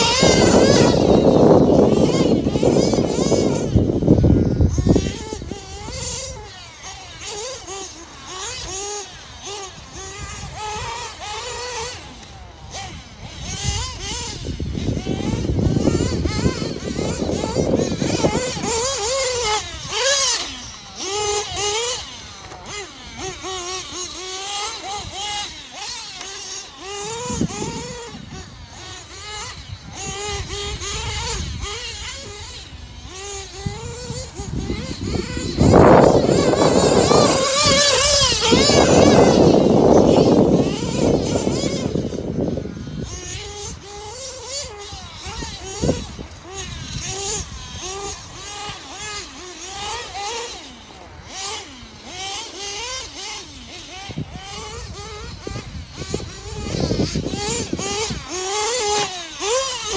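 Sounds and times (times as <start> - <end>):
nitro engine revving: 0.0 - 59.9.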